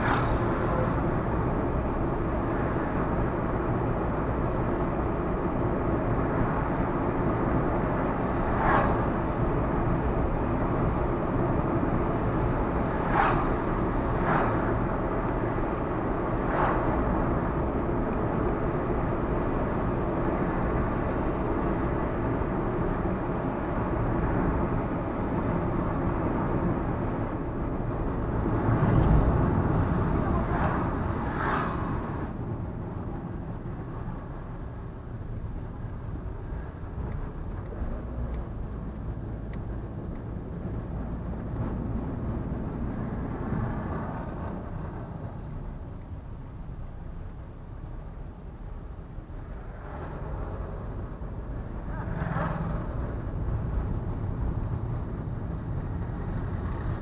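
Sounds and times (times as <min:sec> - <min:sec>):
car road noise: 0:00.0 - 0:57.0.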